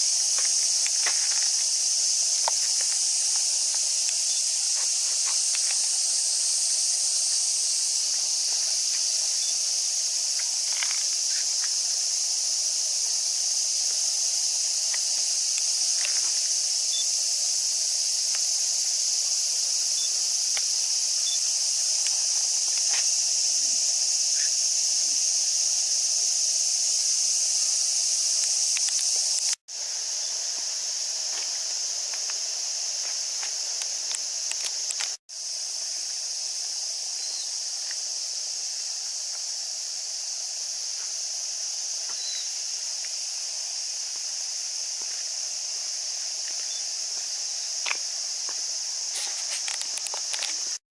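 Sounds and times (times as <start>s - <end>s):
cicadas shrilling: 0.0s - 50.8s.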